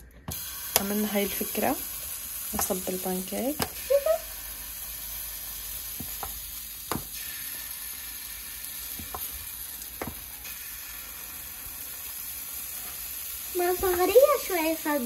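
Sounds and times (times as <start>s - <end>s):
batter sizzling in hot oil: 0.3s - 15.0s.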